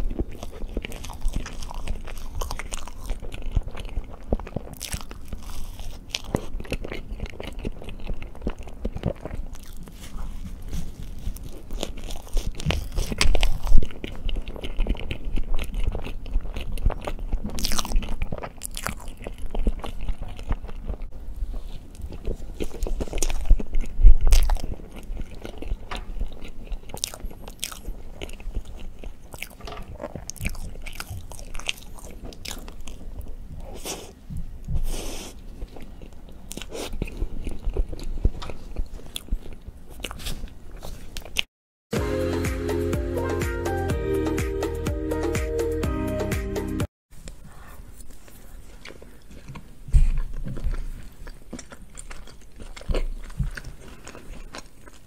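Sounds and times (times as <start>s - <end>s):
chewing crunchy treats: 0.0s - 41.5s, 47.9s - 55.0s.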